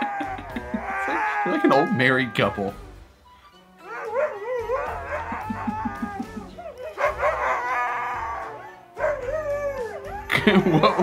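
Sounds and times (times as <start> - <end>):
husky howling vocalizations: 0.0 - 2.9, 3.8 - 11.0.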